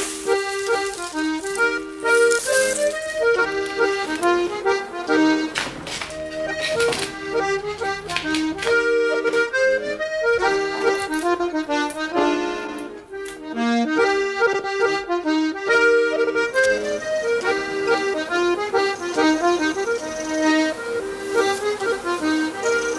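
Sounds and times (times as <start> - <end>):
accordion playing a quick tune: 0.0 - 22.9.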